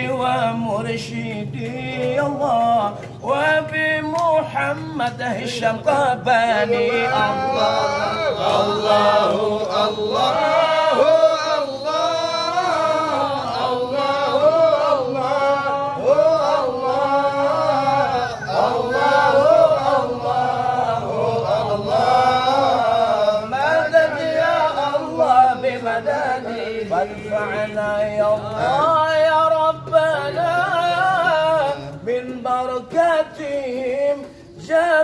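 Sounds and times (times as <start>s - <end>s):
man chanting melodically: 0.0s - 35.0s.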